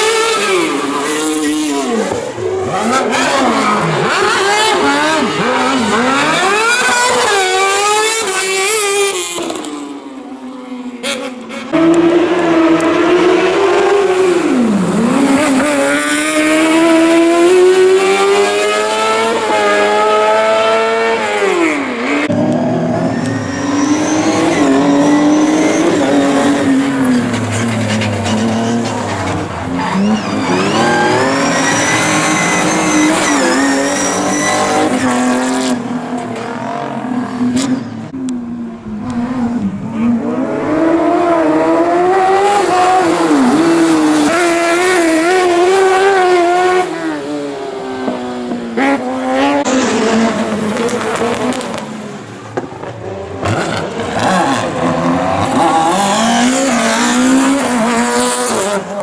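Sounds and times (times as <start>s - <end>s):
high-revving racing engine: 0.0s - 59.0s.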